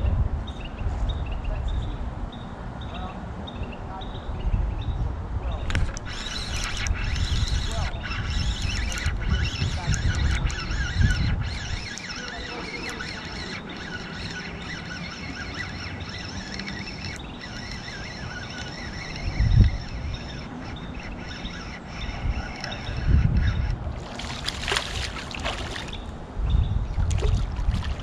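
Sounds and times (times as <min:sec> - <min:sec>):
wind buffeting microphone: 0:00.0 - 0:02.8, 0:03.6 - 0:28.0
small birds chirping: 0:00.5 - 0:28.0.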